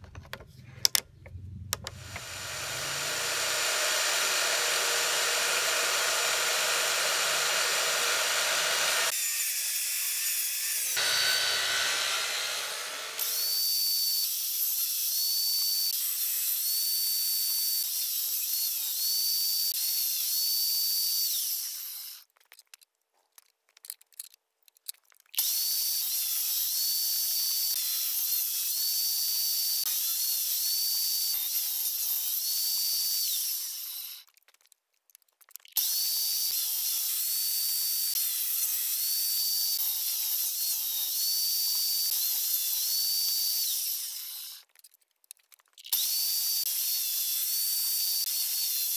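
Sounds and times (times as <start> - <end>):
circular saw cutting wood: 1.8 - 22.2, 25.4 - 34.3, 35.8 - 44.7, 45.9 - 48.9.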